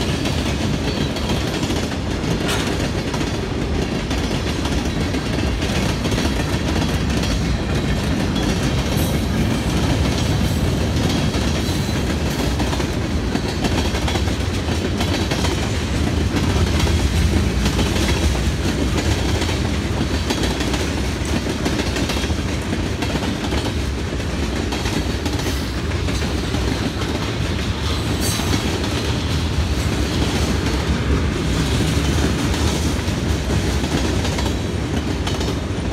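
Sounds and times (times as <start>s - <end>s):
train wheels rumbling on rail: 0.0s - 35.9s
wheels clicking over rail joints: 0.0s - 35.9s.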